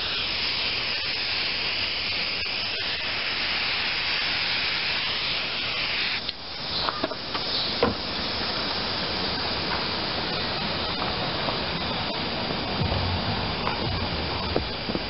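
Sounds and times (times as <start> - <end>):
aerosol spray hissing: 0.0 - 15.0
background hiss: 0.0 - 15.0.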